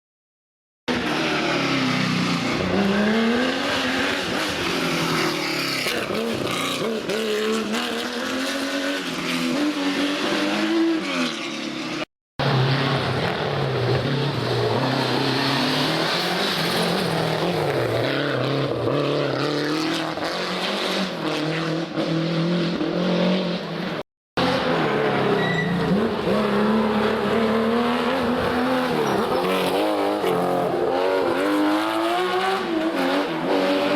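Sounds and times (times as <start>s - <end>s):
rally car engines at full throttle: 0.9s - 33.9s.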